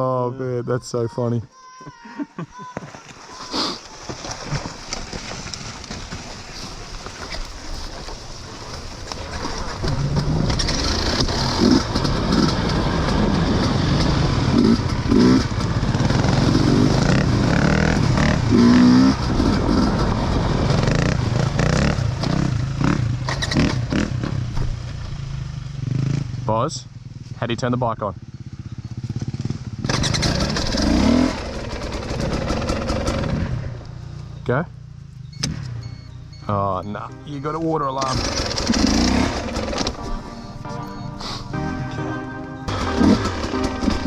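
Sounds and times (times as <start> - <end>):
motorbike riding on a trail: 2.6 - 44.0.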